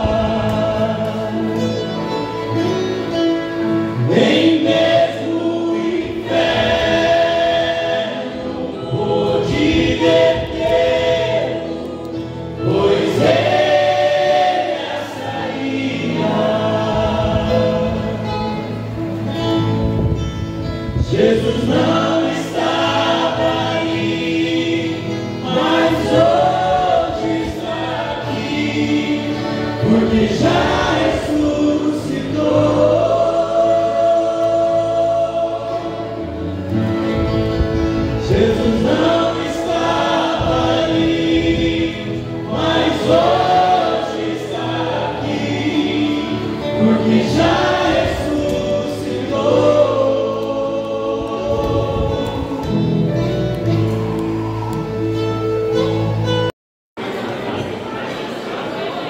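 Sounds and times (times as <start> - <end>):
group singing worship song: 0.0 - 20.1, 20.9 - 53.6
backing music: 0.0 - 56.5.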